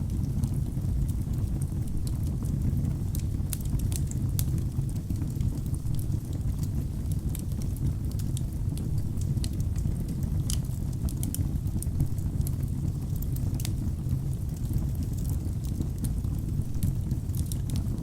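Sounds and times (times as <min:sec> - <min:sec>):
burning logs crackling and popping: 0:00.0 - 0:18.0
fire flames rumbling: 0:00.0 - 0:18.0.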